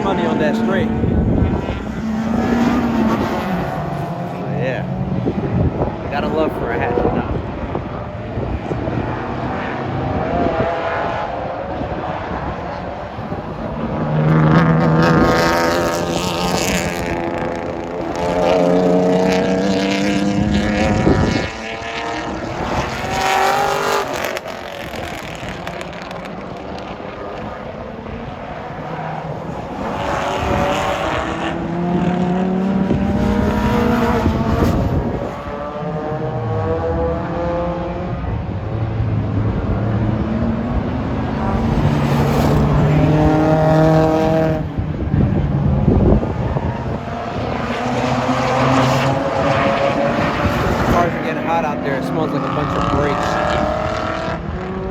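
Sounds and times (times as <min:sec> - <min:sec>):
race cars accelerating past: 0:00.0 - 0:54.9.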